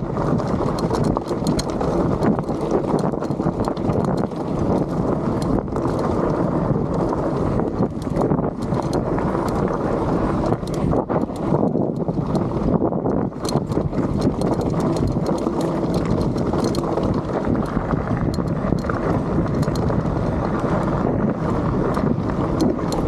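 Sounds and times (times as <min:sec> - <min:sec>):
bike tyres clattering over rocks: 0:00.0 - 0:23.0
wind on microphone: 0:00.0 - 0:23.0.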